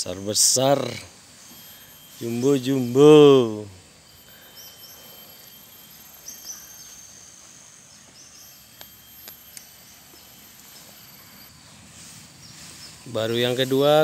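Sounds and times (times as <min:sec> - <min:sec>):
insects trilling: 0:00.0 - 0:14.0
short high chirps: 0:00.8 - 0:14.0.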